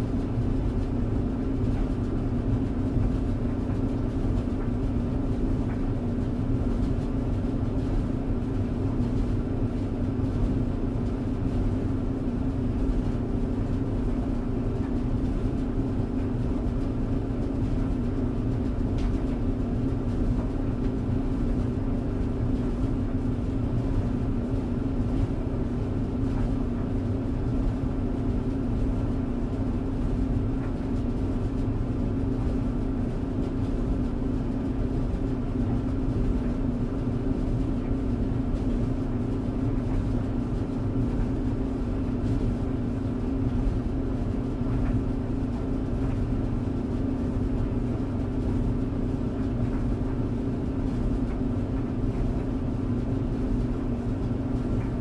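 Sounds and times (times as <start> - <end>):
tumble dryer running: 0.0 - 55.0.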